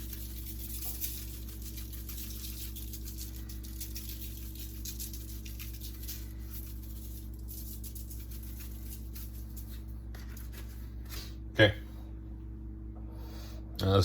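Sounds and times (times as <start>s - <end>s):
seasoning shaker pattering: 0.0s - 11.2s
low electrical hum: 0.0s - 14.0s.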